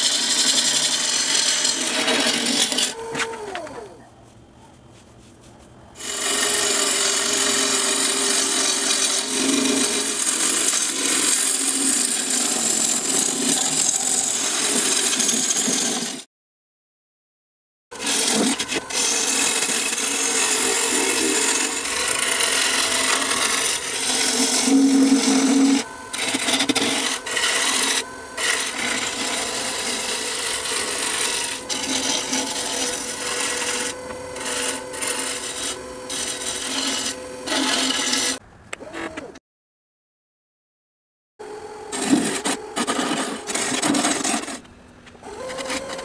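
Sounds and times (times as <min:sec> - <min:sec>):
gouge cutting wood on a lathe: 0:00.0 - 0:03.8, 0:06.0 - 0:16.3, 0:18.0 - 0:38.4, 0:41.9 - 0:44.7, 0:45.3 - 0:46.0.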